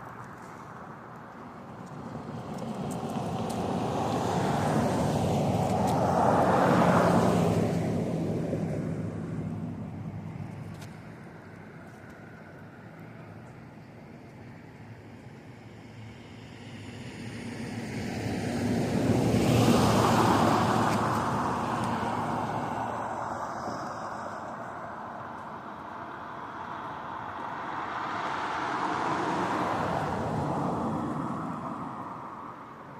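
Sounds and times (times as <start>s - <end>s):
road vehicles passing: 0.0s - 32.9s.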